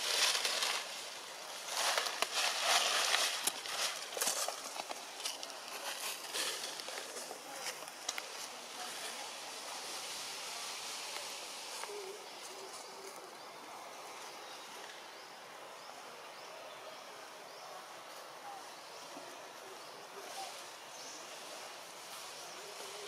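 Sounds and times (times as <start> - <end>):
soft bird calls: 0.0 - 23.0
steady hiss: 0.0 - 23.0.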